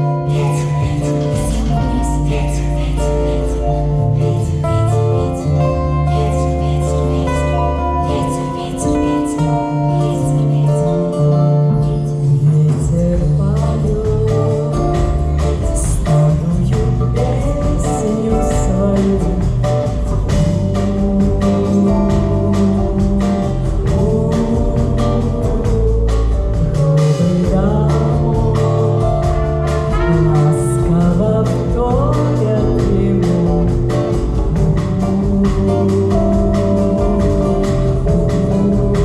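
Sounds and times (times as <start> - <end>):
band music with singing: 0.0 - 39.0.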